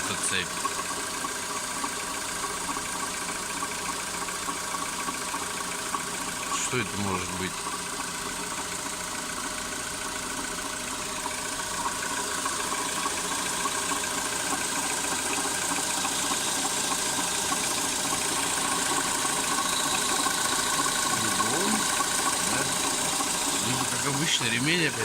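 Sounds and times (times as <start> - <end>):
car engine idling with knock: 0.0 - 25.0.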